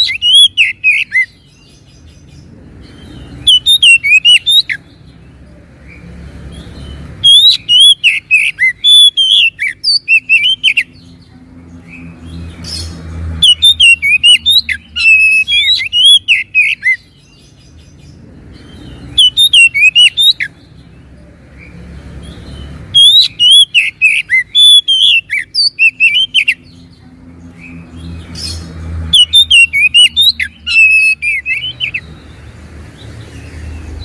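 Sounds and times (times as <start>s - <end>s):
bird singing whistled chattering notes: 0.0s - 11.3s, 11.9s - 34.0s.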